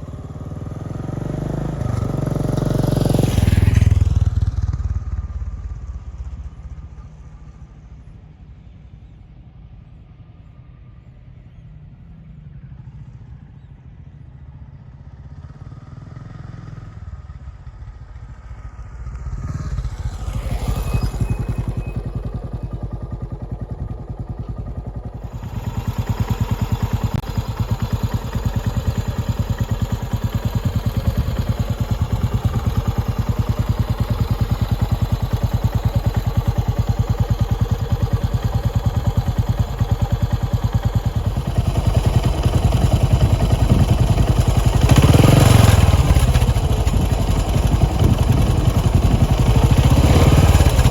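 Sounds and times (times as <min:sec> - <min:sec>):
motorcycle engine idling and revving: 0:00.0 - 0:50.9.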